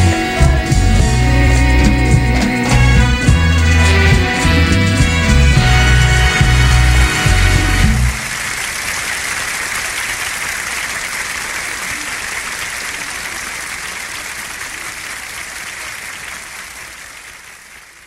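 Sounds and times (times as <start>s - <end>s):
audience applauding: 1.3s - 18.0s.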